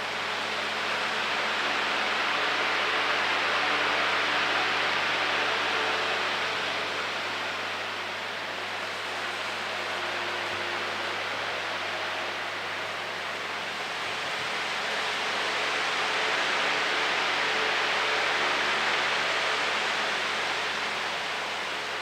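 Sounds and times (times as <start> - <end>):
electric fan air rush: 0.0 - 22.0.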